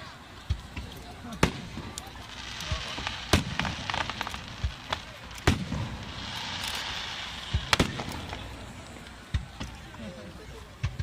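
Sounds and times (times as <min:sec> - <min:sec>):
fireworks crackling: 0:00.0 - 0:11.0
fireworks booming: 0:00.4 - 0:10.0.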